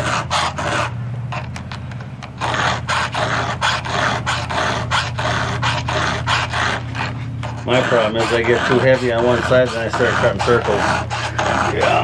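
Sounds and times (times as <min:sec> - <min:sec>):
file rasping on chainsaw chain: 0:00.0 - 0:00.9, 0:02.4 - 0:12.0
steady low hum: 0:00.0 - 0:12.0.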